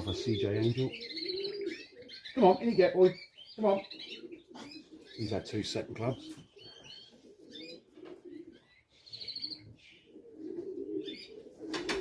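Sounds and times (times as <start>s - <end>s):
pigeons cooing: 0.0s - 12.0s
small birds chirping: 0.0s - 12.0s.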